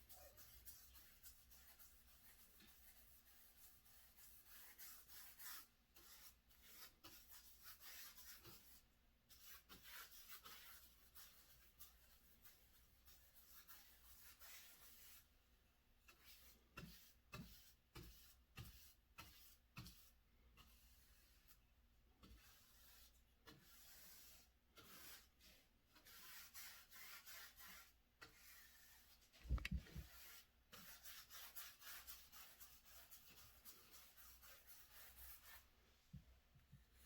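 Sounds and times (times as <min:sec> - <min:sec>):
paintbrush strokes on wall: 0:00.0 - 0:37.0.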